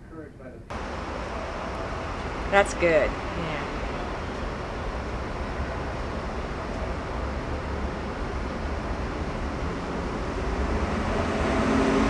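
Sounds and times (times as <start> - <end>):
engine hum: 0.7 - 12.0
street traffic rumble: 0.7 - 12.0.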